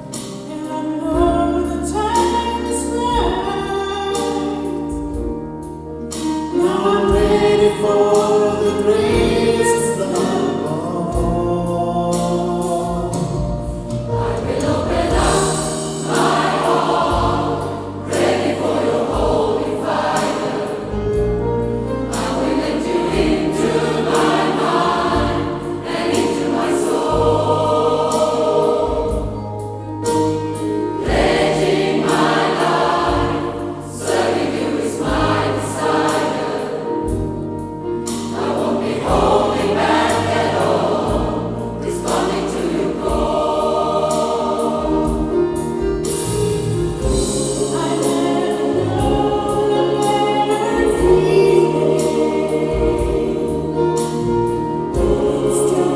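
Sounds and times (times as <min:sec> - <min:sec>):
gospel choir singing: 0:06.1 - 0:55.9.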